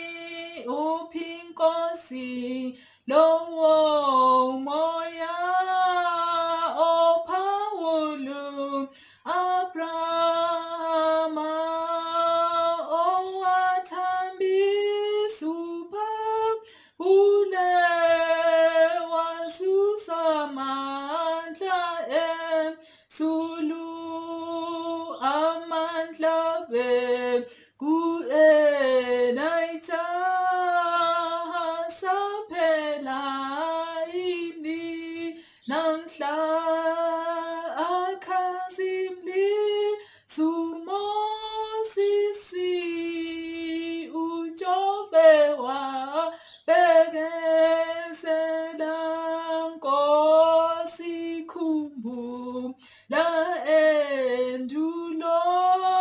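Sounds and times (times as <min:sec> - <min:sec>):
woman singing a hymn: 0:00.0 - 0:56.0.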